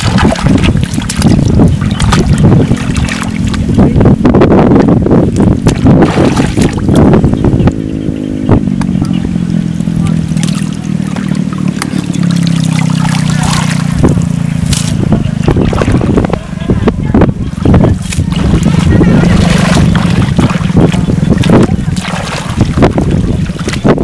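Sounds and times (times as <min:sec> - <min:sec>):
muddy water splashing: 0:00.0 - 0:24.0
steady low hum: 0:00.0 - 0:24.0.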